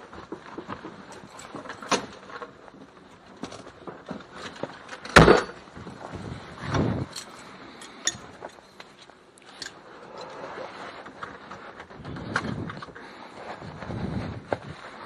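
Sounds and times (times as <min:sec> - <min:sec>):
rustling and small clicks: 0:00.0 - 0:15.0.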